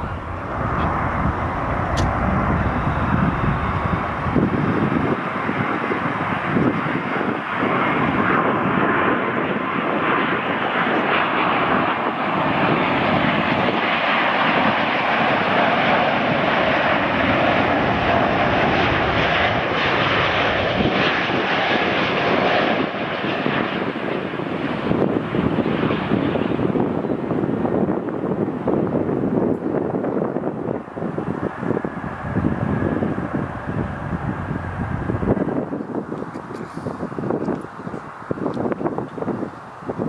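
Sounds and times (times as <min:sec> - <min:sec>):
jet engines with faint whine: 0:00.0 - 0:40.0.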